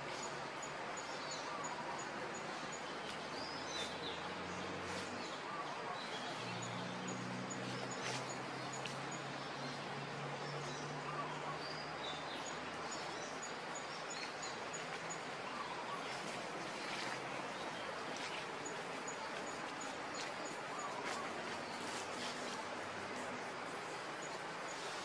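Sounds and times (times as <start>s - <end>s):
steady forest hiss: 0.0s - 25.0s.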